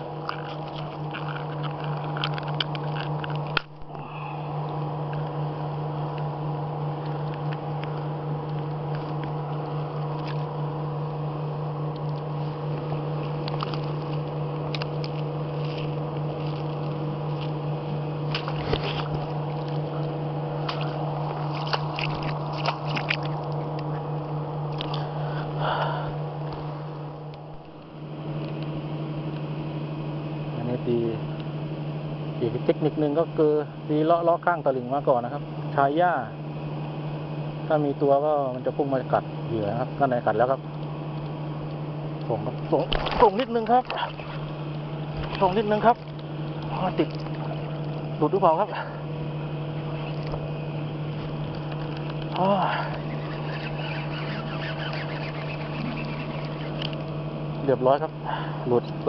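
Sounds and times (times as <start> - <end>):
boat motor humming: 0.0 - 59.0.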